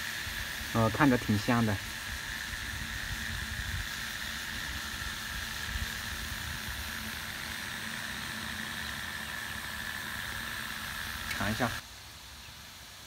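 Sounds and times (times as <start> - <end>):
water boiling in steamer pot: 0.0 - 11.8.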